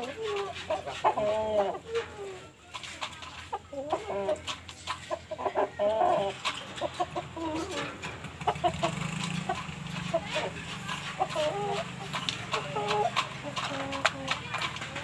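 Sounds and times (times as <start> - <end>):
rooster clucking: 0.0 - 15.0.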